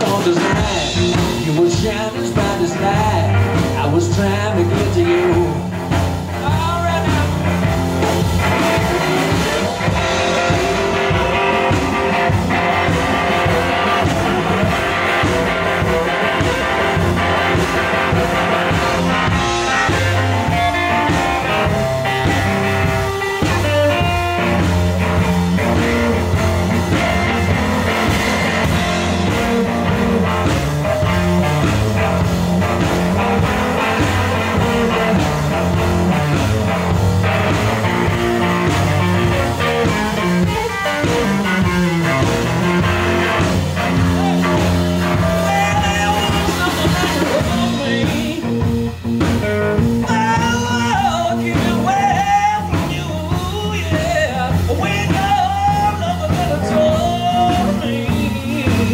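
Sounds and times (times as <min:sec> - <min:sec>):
bass line: 0:00.0 - 0:58.9
drum kit: 0:00.0 - 0:58.9
electric guitar lead lines: 0:00.0 - 0:58.9.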